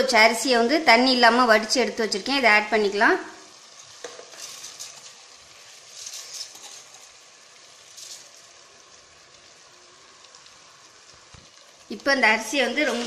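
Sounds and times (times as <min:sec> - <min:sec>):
rice sizzling in hot oil: 0:00.0 - 0:13.0.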